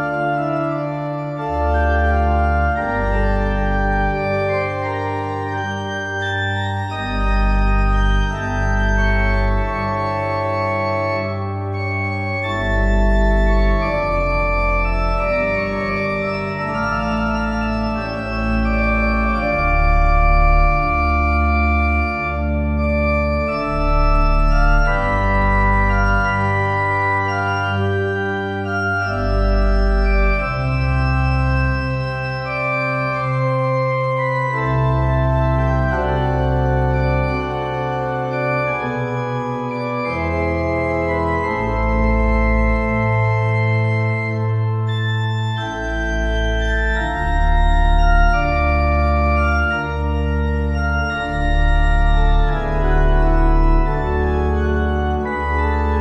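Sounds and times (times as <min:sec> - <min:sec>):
organ playing slow chords: 0:00.0 - 0:56.0.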